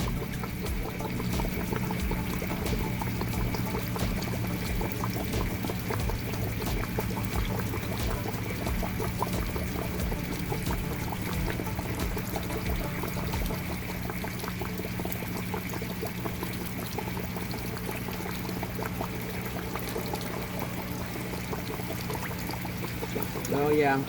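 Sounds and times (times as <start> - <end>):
low steady hum: 0.0 - 24.0
water pouring and splashing: 0.0 - 24.0.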